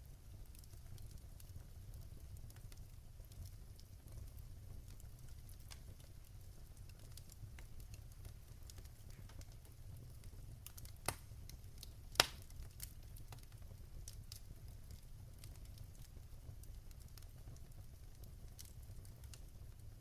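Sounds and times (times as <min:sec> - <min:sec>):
fire rumbling: 0:00.0 - 0:20.0
wood fire crackling: 0:00.0 - 0:20.0
wood fire popping: 0:00.0 - 0:20.0.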